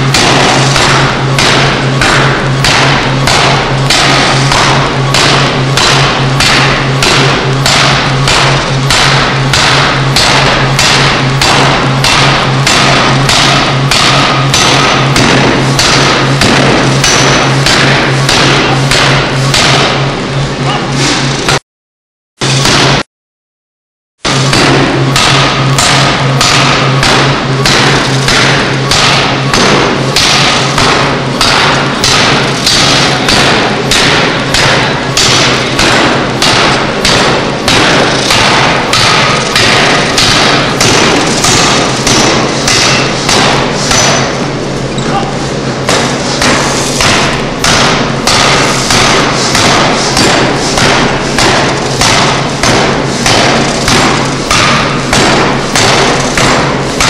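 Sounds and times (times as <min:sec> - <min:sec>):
forging hammer striking metal: 0:00.0 - 0:21.6, 0:22.4 - 0:23.1, 0:24.3 - 0:57.0.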